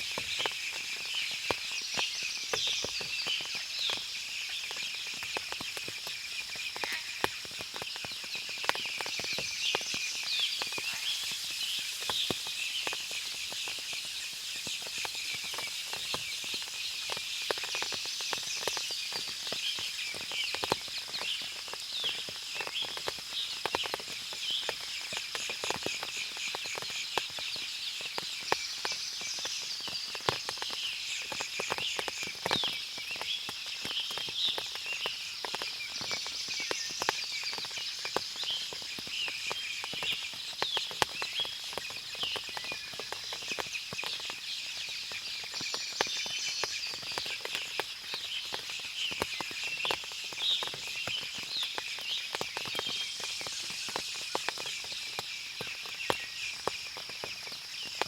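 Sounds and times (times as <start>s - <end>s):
birds chirping: 0.0s - 58.0s
water dripping from trees: 0.0s - 58.0s.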